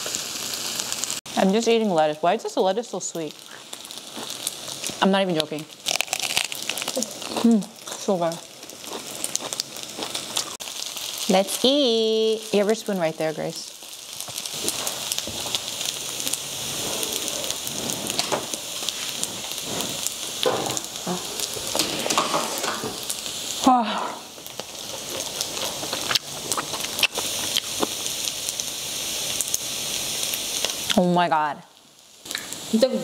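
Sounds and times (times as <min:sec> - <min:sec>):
rice sizzling and crackling: 0:00.0 - 0:33.0.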